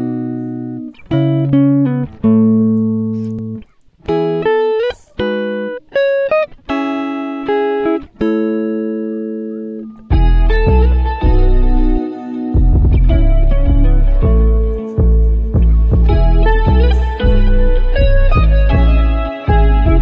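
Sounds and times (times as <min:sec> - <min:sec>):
plucked chords ringing: 0:00.0 - 0:20.0.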